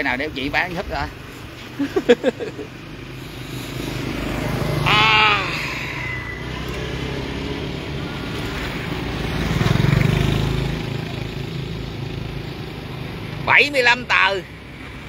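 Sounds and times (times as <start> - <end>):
motorbike passing: 0.0 - 15.0
street traffic: 0.0 - 15.0.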